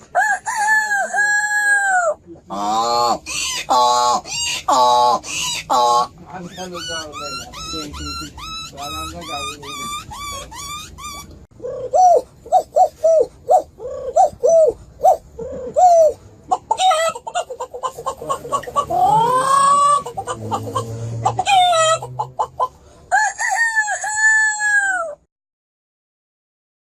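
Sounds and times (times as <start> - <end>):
rising arching bird calls: 2.6 - 25.1.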